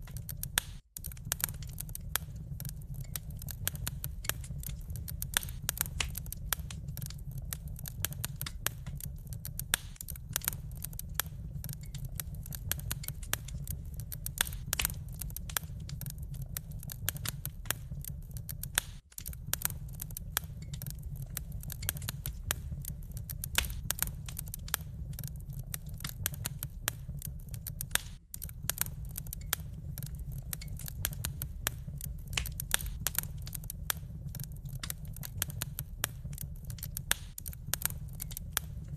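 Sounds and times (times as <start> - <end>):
low rumble of burning: 0.0 - 38.9
wood fire crackling and popping: 0.0 - 38.9.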